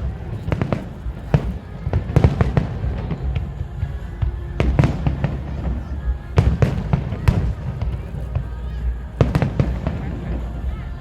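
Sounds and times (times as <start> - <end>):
fireworks bursting: 0.0 - 11.0
low rumble: 0.0 - 11.0
music playing: 0.0 - 11.0.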